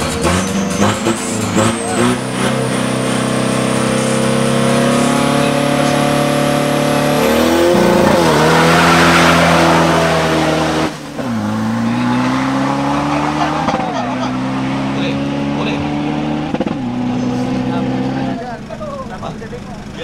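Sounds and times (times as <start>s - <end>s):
truck engine revving high: 0.0s - 20.0s.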